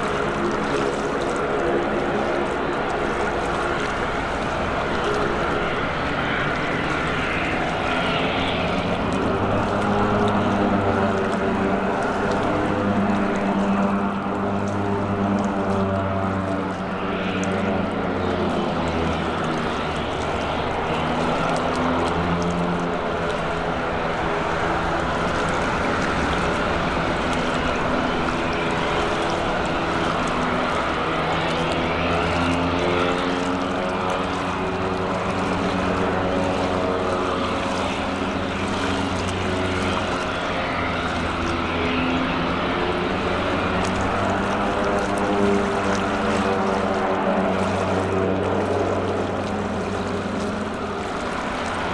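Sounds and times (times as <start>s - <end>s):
propeller engine droning: 0.0s - 51.9s.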